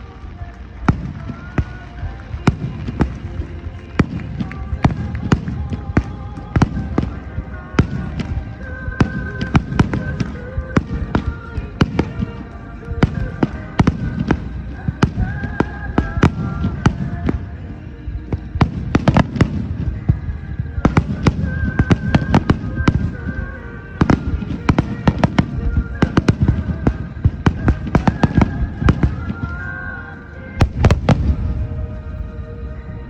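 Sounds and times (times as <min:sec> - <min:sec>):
fireworks bursts and bangs: 0:00.0 - 0:33.0
music playing: 0:00.0 - 0:33.0.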